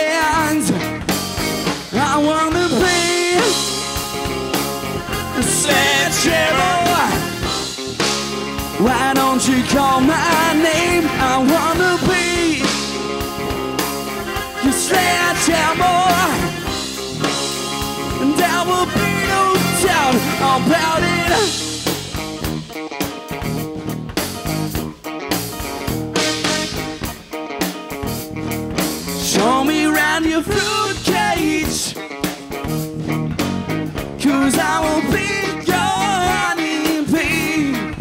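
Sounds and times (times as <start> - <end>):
electric guitar lead bending: 0.0 - 38.0
rock band playing: 0.0 - 38.0.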